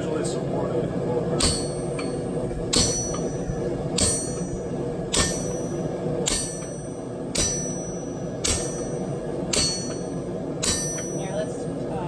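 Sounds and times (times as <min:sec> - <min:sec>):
hammer striking hot steel on anvil: 0:01.3 - 0:11.5.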